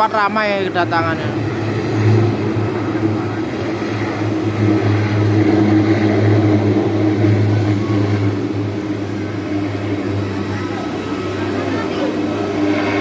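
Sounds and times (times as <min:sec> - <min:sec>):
low engine hum: 0:00.0 - 0:13.0
wash of noise: 0:00.0 - 0:13.0.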